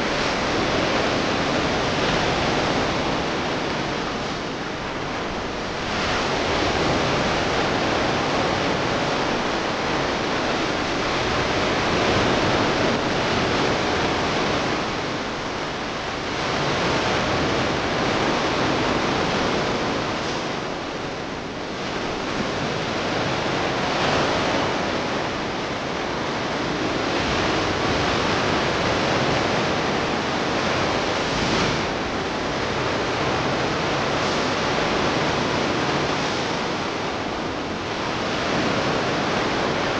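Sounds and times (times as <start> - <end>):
sea surf washing ashore: 0.0 - 39.9.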